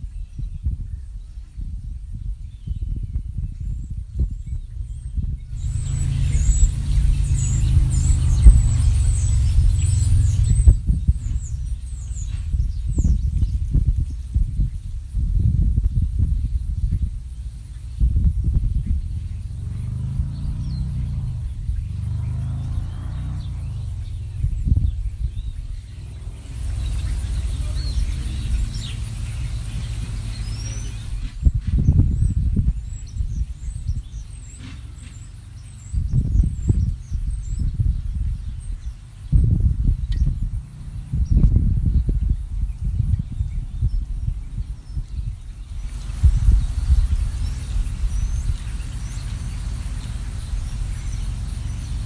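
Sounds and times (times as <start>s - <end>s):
bird chirping: 0.0s - 15.2s, 16.2s - 52.0s
motorcycle engine rumbling: 0.0s - 52.0s.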